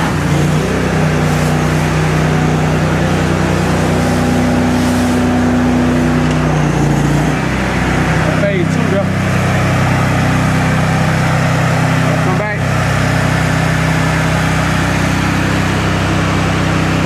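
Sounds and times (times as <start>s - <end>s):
pressure washer engine running: 0.0s - 17.0s
water spraying on concrete: 0.0s - 17.0s.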